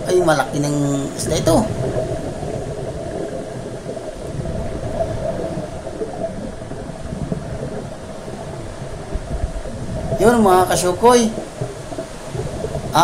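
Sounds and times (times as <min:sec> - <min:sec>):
faint steady hum: 0:00.0 - 0:13.0
underwater rumble and hiss: 0:00.0 - 0:13.0.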